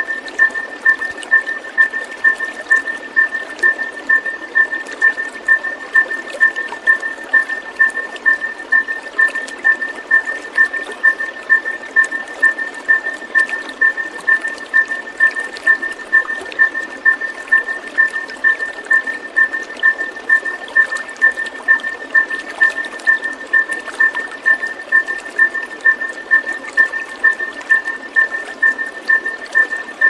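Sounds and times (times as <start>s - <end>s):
water flowing: 0.0s - 30.0s.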